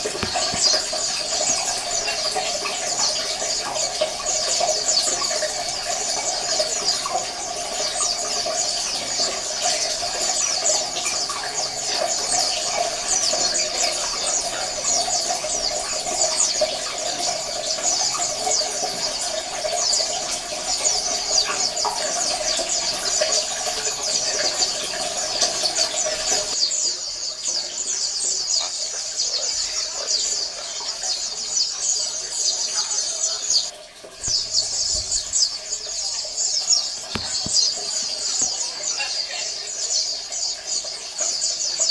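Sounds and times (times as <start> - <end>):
birds chirping and twittering: 0.0 - 41.9.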